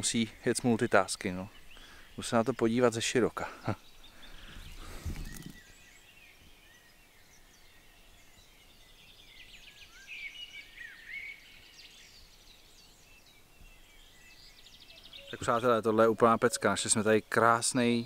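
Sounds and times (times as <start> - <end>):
songbirds chirping and warbling: 0.0 - 18.0.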